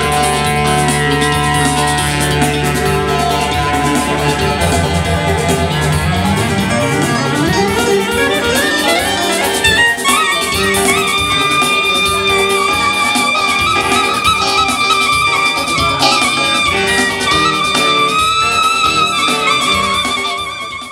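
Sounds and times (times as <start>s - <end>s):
clarinet playing lively melody: 0.0s - 20.9s.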